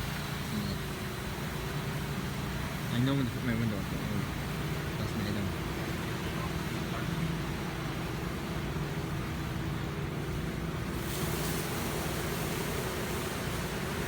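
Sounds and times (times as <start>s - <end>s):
car wash machine humming: 0.0s - 14.0s
water spraying from jets: 0.0s - 14.0s.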